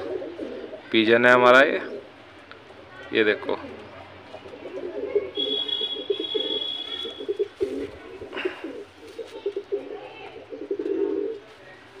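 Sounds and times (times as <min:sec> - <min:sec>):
pigeons cooing: 0:00.0 - 0:02.5, 0:03.3 - 0:11.4.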